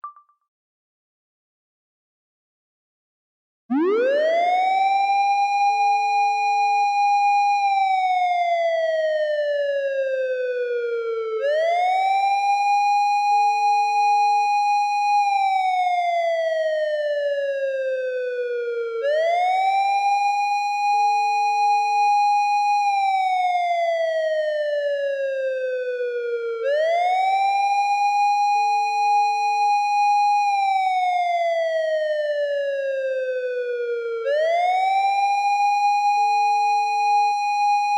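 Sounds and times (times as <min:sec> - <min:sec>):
police siren wailing: 0:03.7 - 0:37.9
steady lower siren tone: 0:03.7 - 0:37.9.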